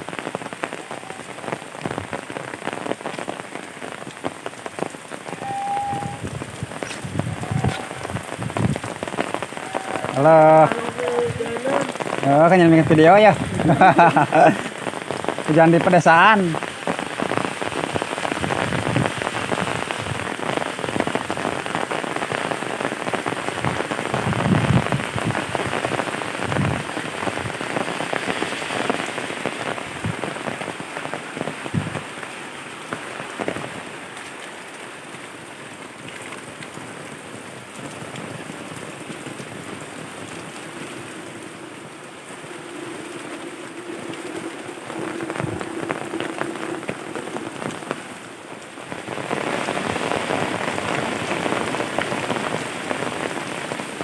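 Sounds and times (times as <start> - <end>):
heavy raindrops striking: 0.0 - 54.0
rain falling: 0.0 - 54.0.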